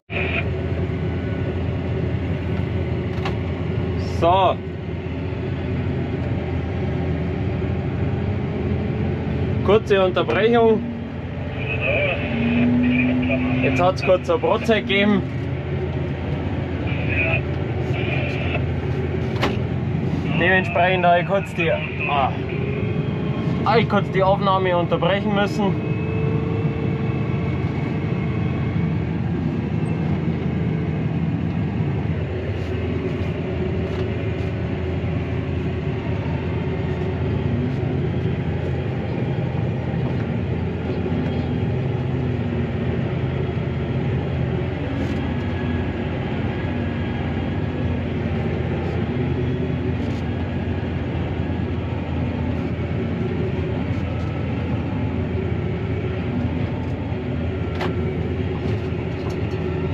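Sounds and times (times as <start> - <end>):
tractor diesel engine droning: 0.1 - 59.9.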